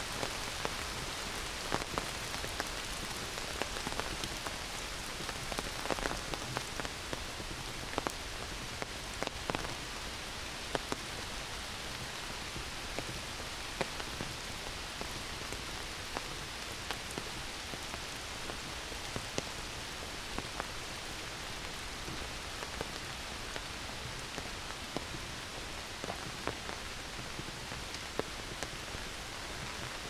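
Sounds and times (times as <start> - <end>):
rain falling on forest: 0.0 - 30.0.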